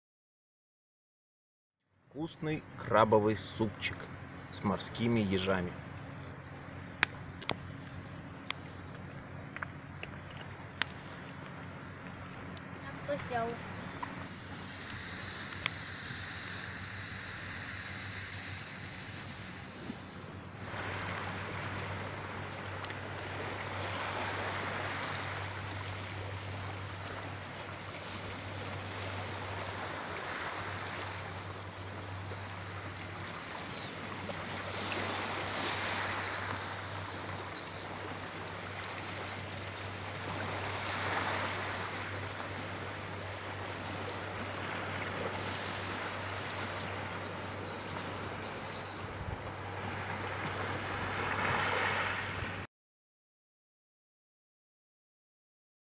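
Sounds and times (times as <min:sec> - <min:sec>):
birds chirping: 0:02.1 - 0:22.9, 0:25.9 - 0:40.2, 0:40.9 - 0:50.9.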